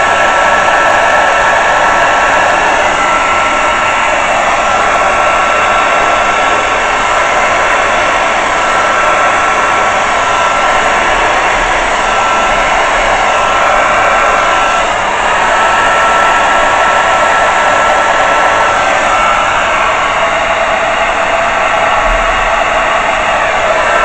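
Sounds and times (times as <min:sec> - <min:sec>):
hair dryer blowing air: 0:00.0 - 0:24.0.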